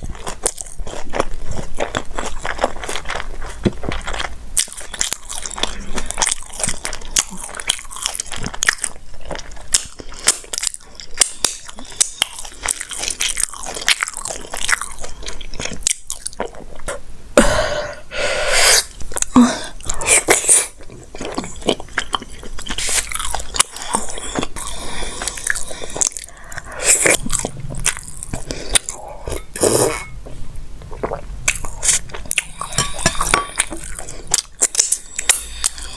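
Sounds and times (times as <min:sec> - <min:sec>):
person biting and chewing: 0:00.0 - 0:17.0, 0:18.6 - 0:30.1, 0:30.8 - 0:35.9.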